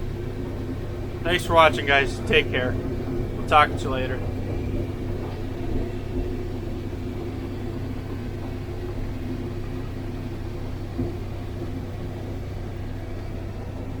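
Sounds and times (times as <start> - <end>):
combine harvester engine drone: 0.0 - 14.0.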